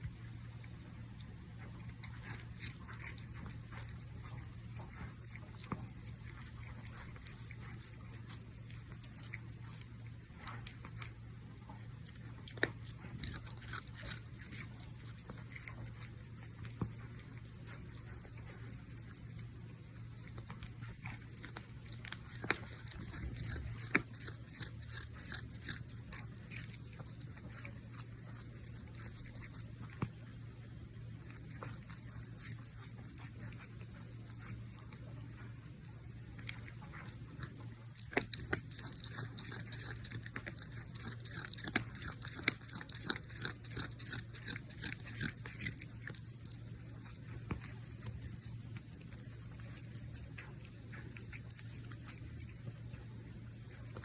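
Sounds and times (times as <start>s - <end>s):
cat chewing its claws: 0.0s - 54.0s.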